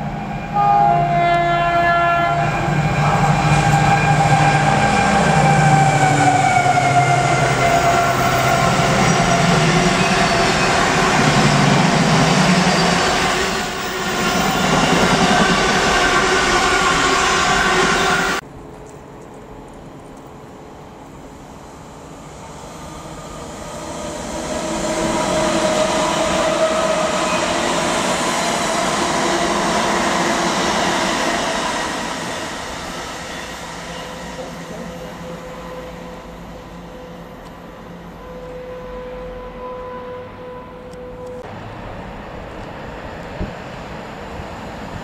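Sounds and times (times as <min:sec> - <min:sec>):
electric train passing: 0:00.0 - 0:45.0.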